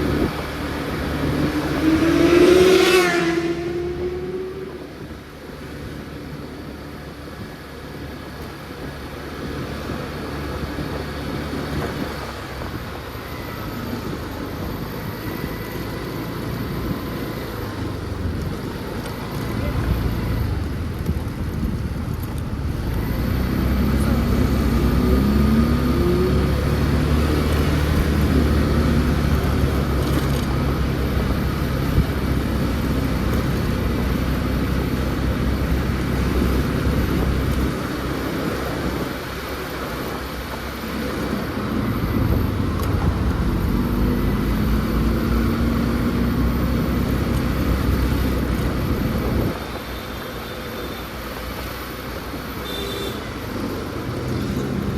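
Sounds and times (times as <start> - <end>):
motor scooter engine: 0.0 - 54.9.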